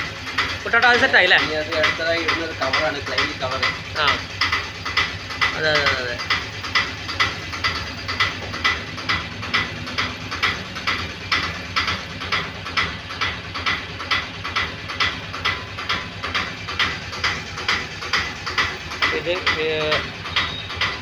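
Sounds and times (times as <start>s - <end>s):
rhythmic mechanical ticking: 0.0s - 21.0s.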